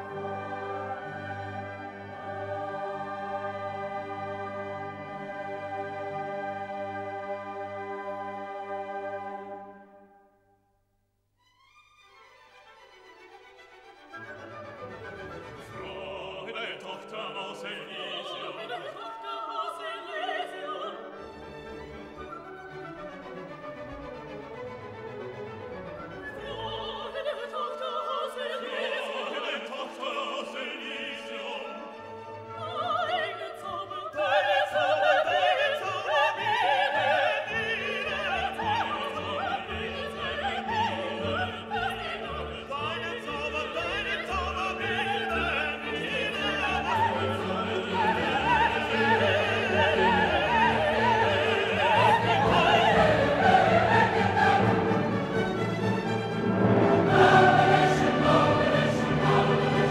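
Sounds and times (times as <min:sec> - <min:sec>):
orchestra with operatic singing: 0:00.0 - 0:10.2, 0:12.3 - 0:59.9.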